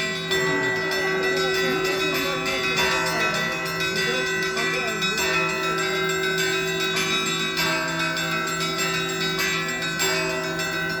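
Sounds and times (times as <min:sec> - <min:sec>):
church bells ringing: 0:00.0 - 0:11.0
deep bell tone: 0:00.0 - 0:11.0.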